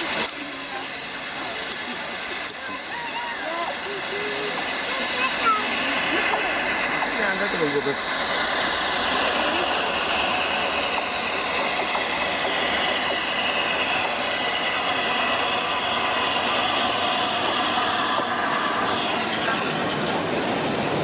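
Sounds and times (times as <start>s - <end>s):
rail clatter: 0.0s - 21.0s
steam locomotive running: 0.0s - 21.0s.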